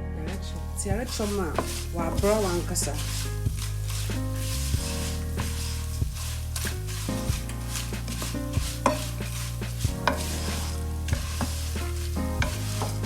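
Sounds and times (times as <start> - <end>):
food sizzling in hot oil: 0.6 - 13.0
spoon stirring and striking pot: 1.0 - 13.0.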